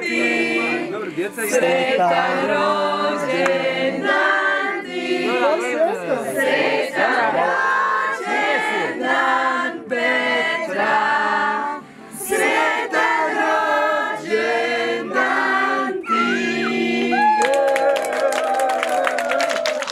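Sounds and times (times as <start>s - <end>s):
choir singing a hymn: 0.0s - 17.2s.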